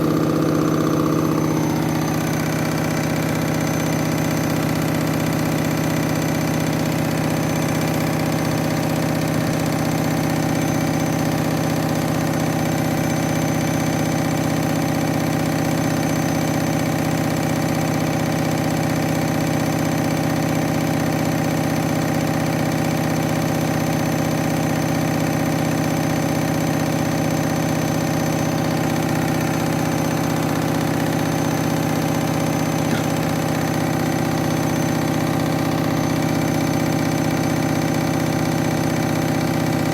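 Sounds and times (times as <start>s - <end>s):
washing machine motor running: 0.0s - 39.9s.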